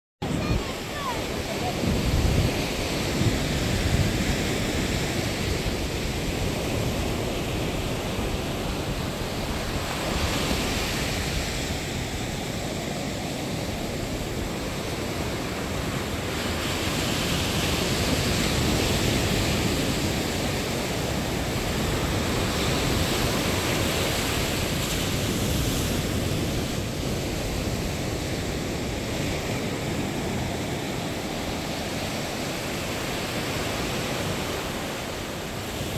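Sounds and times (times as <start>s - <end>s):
surf washing onto beach: 0.2s - 35.9s
wind rumbling on microphone: 0.2s - 35.9s.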